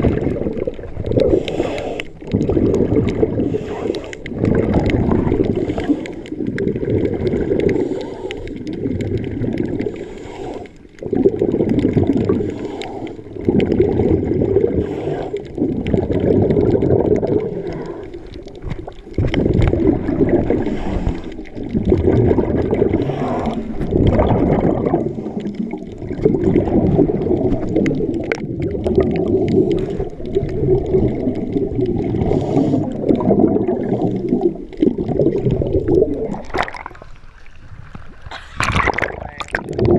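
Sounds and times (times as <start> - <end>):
muffled underwater churning rush: 0.0 - 39.9.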